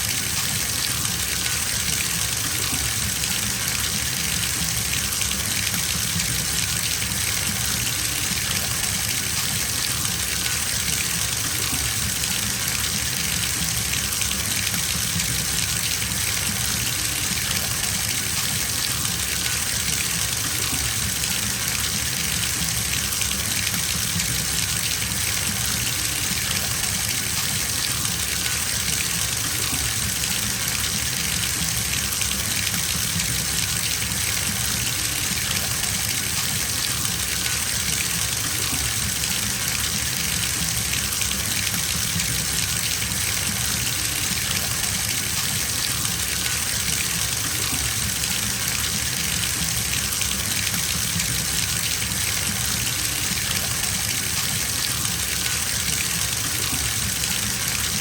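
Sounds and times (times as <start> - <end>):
tap water gushing into bathtub: 0.0 - 58.0.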